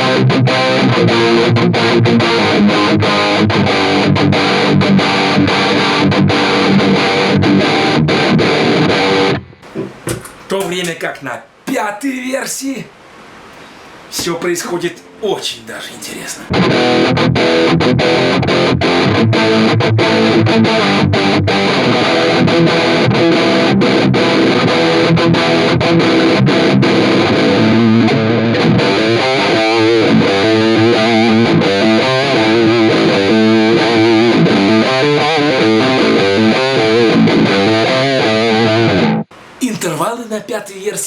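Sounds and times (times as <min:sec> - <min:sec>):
distorted electric guitar chords: 0:00.0 - 0:10.2, 0:16.5 - 0:39.3.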